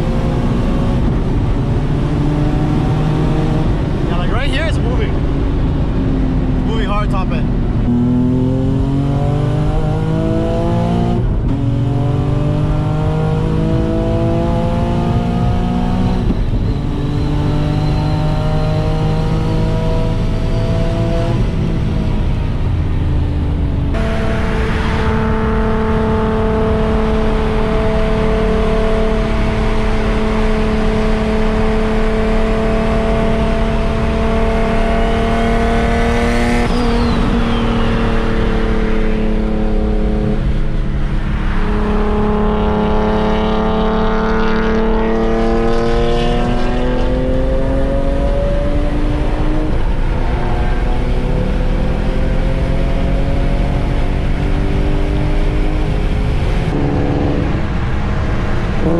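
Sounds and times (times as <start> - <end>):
car engine under load: 0.0 - 58.9.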